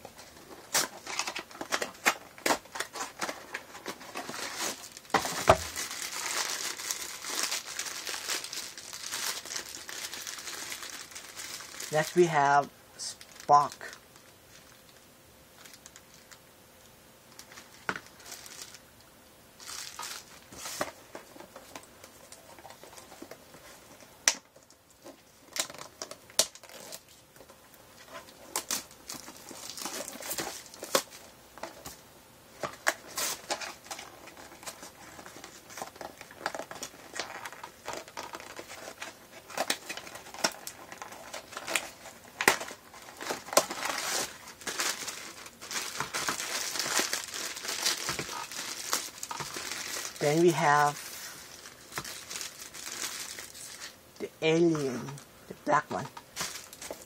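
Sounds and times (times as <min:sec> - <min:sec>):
foil bag crinkling and tearing: 0:00.2 - 0:15.0, 0:15.6 - 0:16.4, 0:17.3 - 0:18.8, 0:19.6 - 0:27.4, 0:28.0 - 0:32.0, 0:32.6 - 0:55.2, 0:56.0 - 0:57.0.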